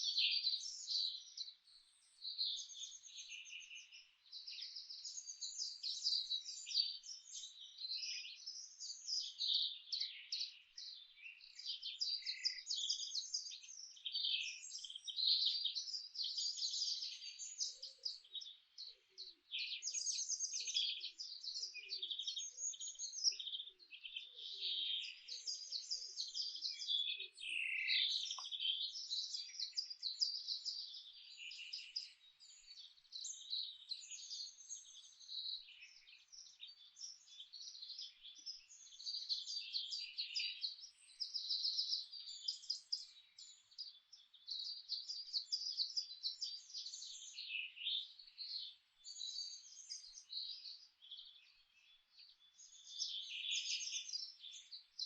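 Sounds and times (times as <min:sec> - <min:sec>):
faint low-pitched bird calls: 0:00.0 - 0:55.0
songbirds singing and chirping: 0:00.0 - 0:55.0.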